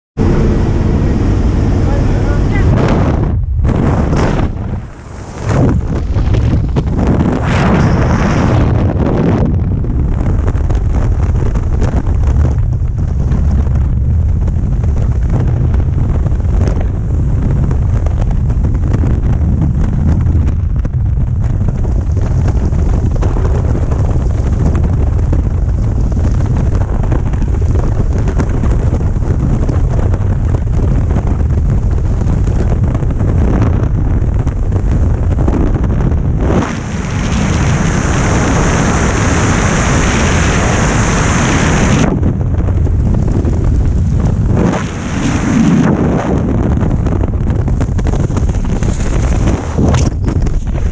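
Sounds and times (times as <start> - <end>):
wind blasting over microphone: 0.2 - 50.9.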